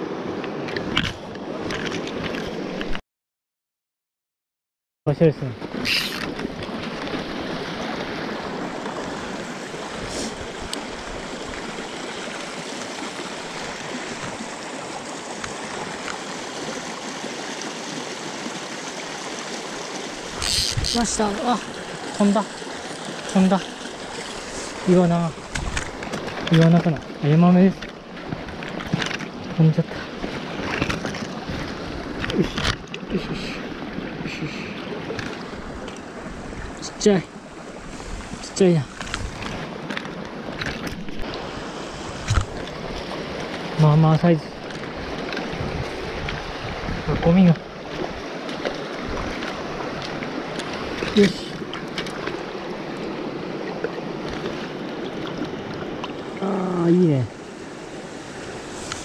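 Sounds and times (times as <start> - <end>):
stream running over rocks: 5.2 - 59.0.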